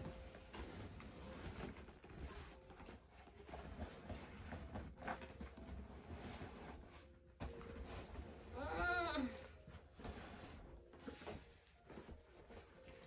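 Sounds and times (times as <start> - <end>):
air mattress rustling and crinkling: 0.0 - 13.0.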